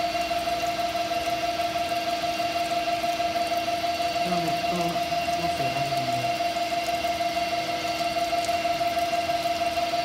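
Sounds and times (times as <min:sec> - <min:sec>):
cutting machine high whine: 0:00.0 - 0:10.0
low machine hum: 0:00.0 - 0:10.0.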